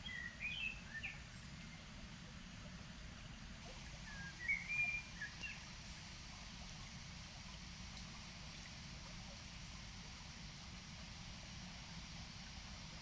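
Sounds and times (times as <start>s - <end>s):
river water running: 0.0s - 13.0s
songbirds chirping: 0.0s - 13.0s.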